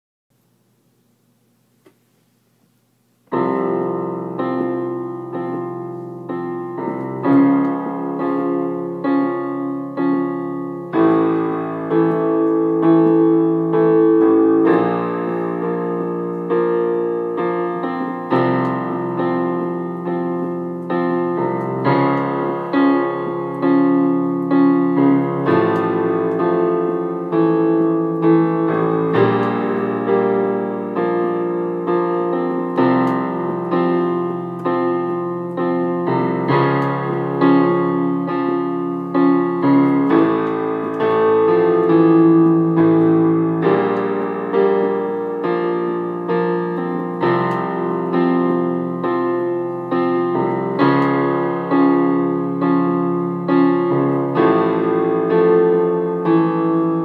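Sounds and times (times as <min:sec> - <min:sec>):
keyboard piano chords: 0:02.7 - 0:57.0.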